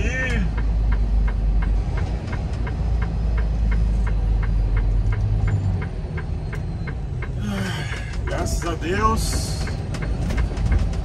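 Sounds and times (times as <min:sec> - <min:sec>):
diesel truck engine running: 0:00.0 - 0:11.0
turn signal ticking: 0:00.0 - 0:11.0.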